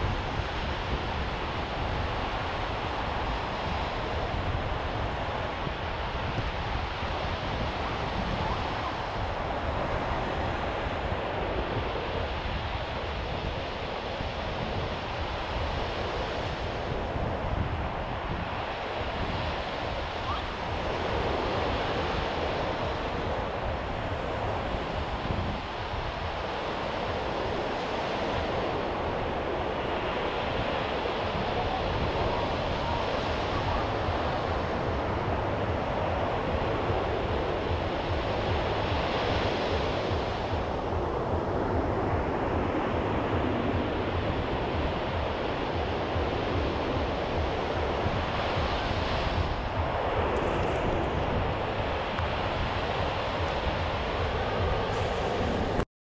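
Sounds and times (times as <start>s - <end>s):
ocean waves breaking on sand: 0.0s - 55.8s
wind rumbling on microphone: 0.0s - 55.9s.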